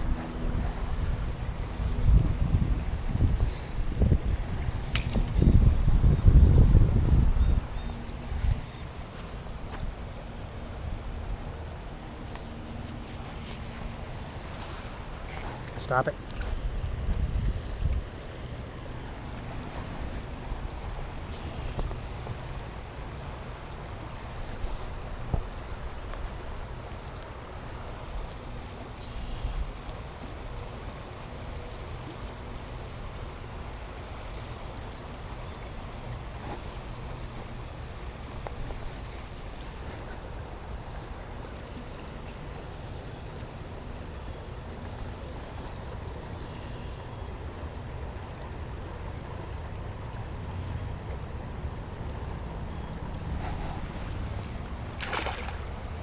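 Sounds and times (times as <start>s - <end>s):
flowing creek: 0.0s - 56.0s
wind rumble on microphone: 0.0s - 56.0s.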